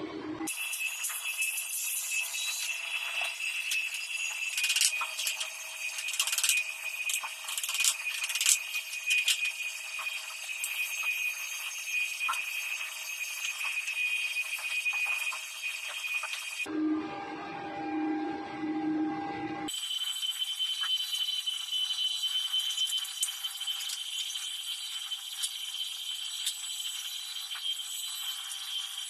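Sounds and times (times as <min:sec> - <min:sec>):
steady high-pitched tone: 0:00.0 - 0:23.8.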